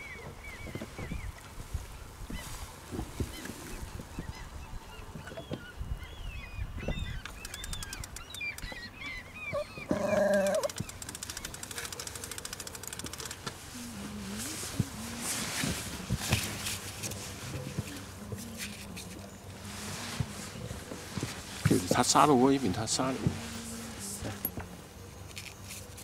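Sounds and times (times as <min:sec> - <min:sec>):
birds chirping: 0:00.0 - 0:01.4, 0:02.2 - 0:26.0.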